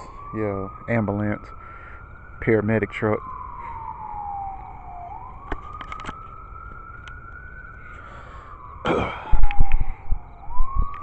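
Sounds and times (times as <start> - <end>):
ambulance siren wailing: 0.0 - 11.0.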